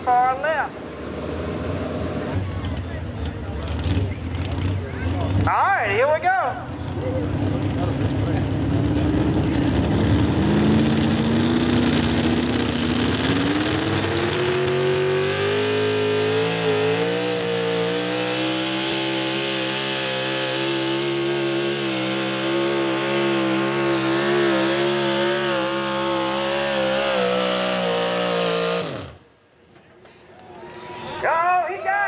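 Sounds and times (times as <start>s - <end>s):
truck engine at full throttle: 0.0s - 29.4s.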